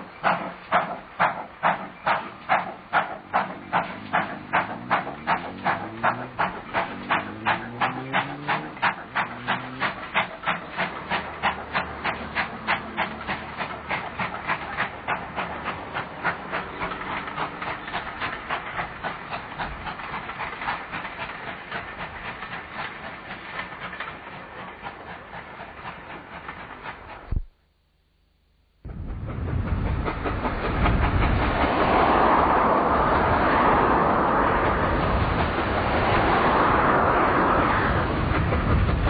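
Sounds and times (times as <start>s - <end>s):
steam locomotive exhaust beats: 0.0s - 27.6s, 28.8s - 39.0s.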